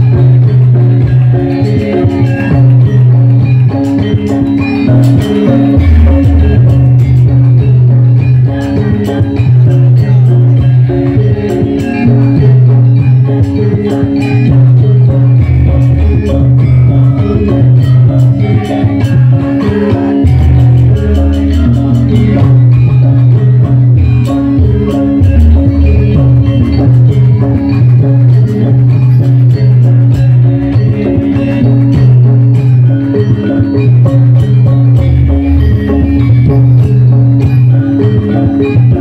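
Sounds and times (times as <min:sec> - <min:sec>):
drums: 0:00.0 - 0:39.0
gamelan music: 0:00.0 - 0:39.0.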